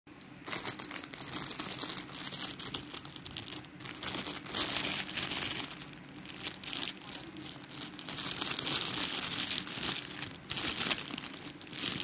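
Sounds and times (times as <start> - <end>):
plastic bag crinkling: 0.2 - 12.0.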